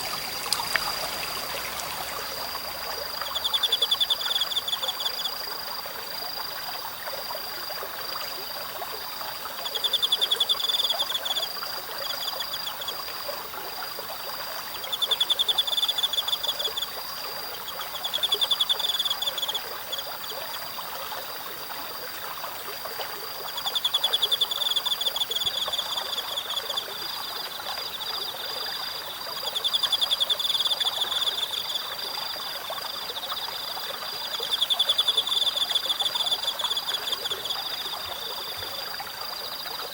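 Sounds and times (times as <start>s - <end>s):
pulsed insect calls: 0.0s - 7.3s, 9.1s - 13.1s, 14.5s - 21.4s, 23.2s - 39.9s
babbling stream: 0.0s - 39.9s.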